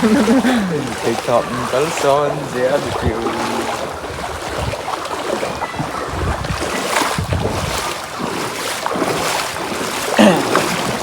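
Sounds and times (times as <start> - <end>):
floodwater rushing: 0.0 - 11.0
wind buffeting microphone: 0.0 - 11.0.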